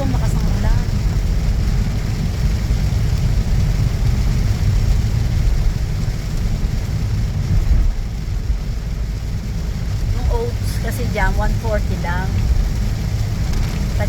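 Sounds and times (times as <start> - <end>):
heavy rain: 0.0 - 14.0
low rumble of vehicles: 0.0 - 14.0.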